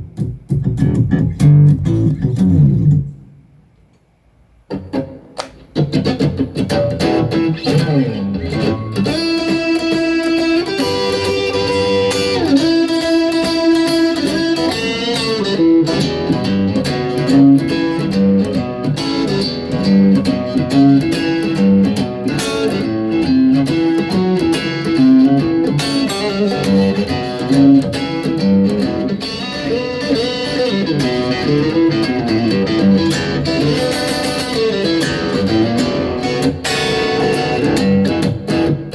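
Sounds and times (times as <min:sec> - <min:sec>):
electric guitar notes: 0:00.0 - 0:03.3, 0:04.7 - 0:38.9.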